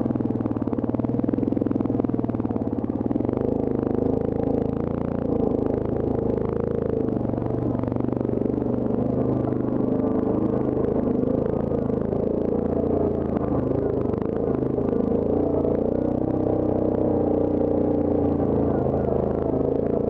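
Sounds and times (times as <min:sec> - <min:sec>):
atv engine at low speed: 0:00.0 - 0:20.0.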